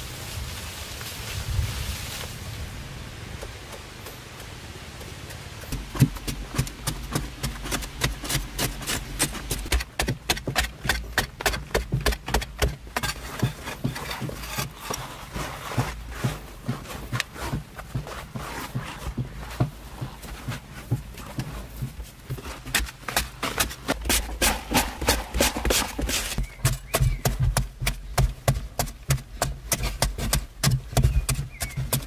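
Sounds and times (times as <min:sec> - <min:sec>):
digging tool chopping earth: 0:05.3 - 0:32.0.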